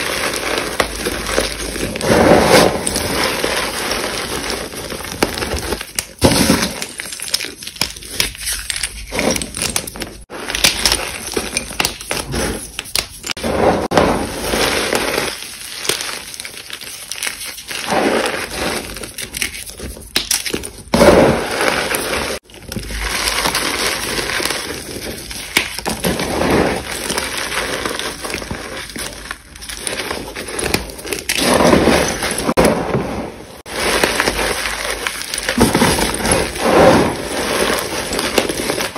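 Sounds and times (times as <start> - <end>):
chalk crushed by hand: 0.0 - 38.9.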